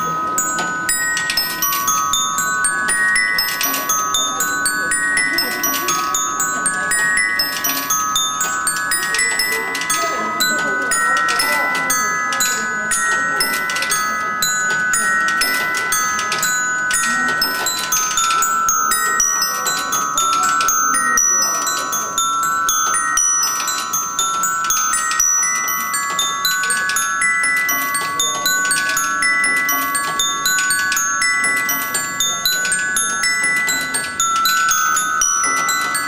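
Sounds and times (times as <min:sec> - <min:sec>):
ball bearings ringing glockenspiel bars: 0:00.0 - 0:36.0.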